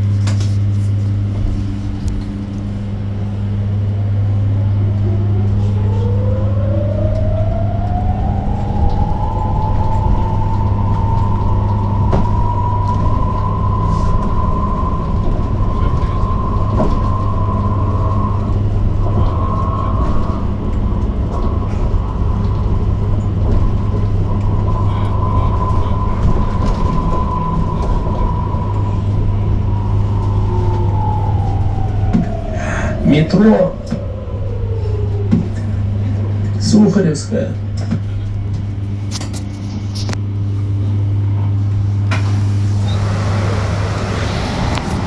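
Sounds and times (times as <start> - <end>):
bus ride rumble: 0.0 - 45.0.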